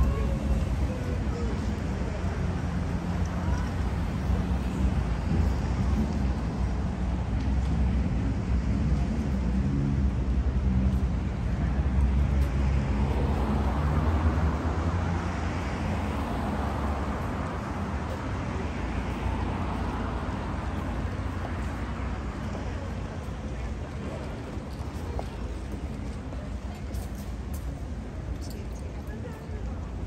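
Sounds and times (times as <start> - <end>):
tyre noise of passing vehicle: 0.0 - 30.0.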